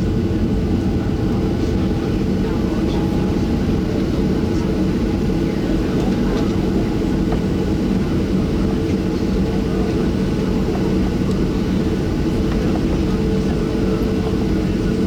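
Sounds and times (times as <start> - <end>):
jet engines droning: 0.0 - 15.0.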